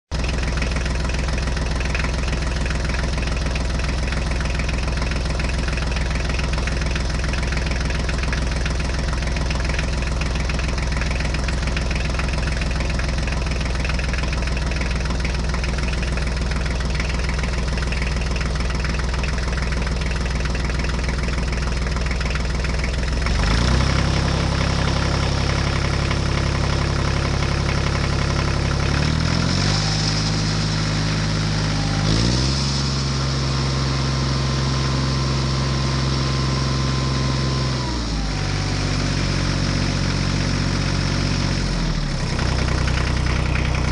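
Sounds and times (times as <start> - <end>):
tractor engine revving: 0.1 - 43.9.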